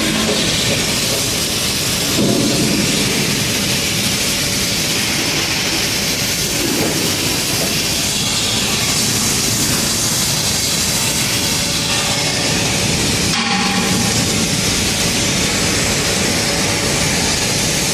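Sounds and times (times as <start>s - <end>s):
welding arc crackling hiss: 0.0s - 17.9s.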